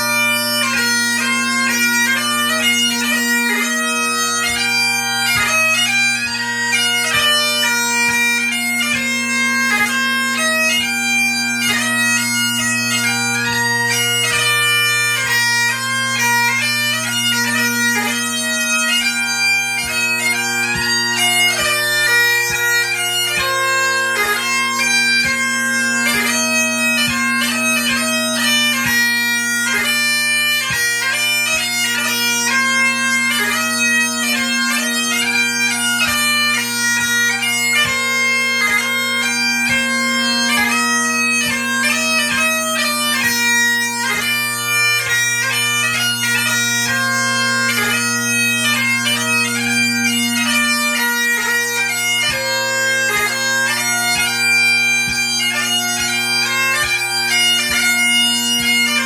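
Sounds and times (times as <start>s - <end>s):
bagpipe march: 0.0s - 59.0s.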